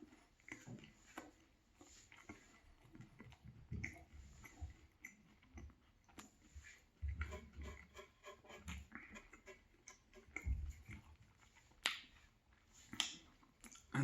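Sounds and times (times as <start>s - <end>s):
chewing sandwich close up: 0.0s - 7.8s, 8.9s - 14.0s.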